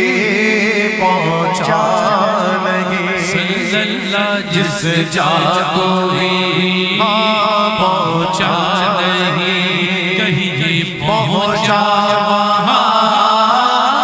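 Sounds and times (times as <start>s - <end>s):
men singing devotional song: 0.0s - 14.0s.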